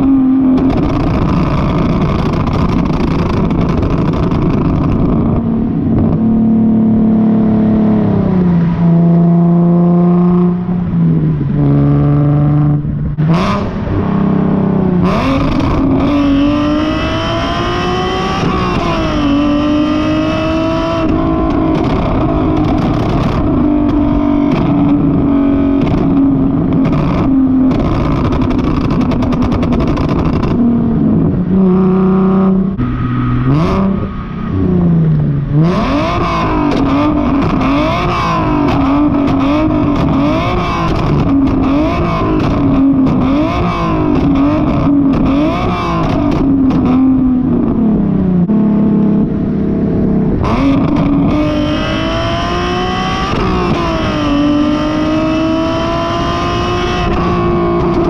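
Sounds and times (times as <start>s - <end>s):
car exhaust while driving: 0.0s - 58.0s.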